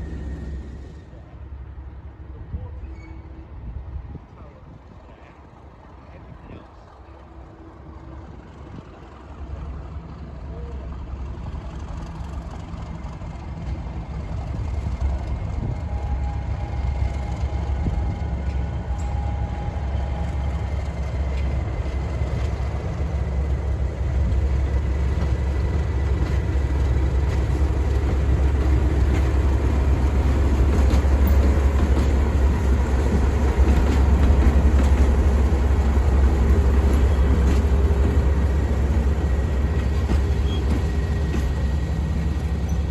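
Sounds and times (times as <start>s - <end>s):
diesel locomotive engine drone: 0.0s - 42.9s.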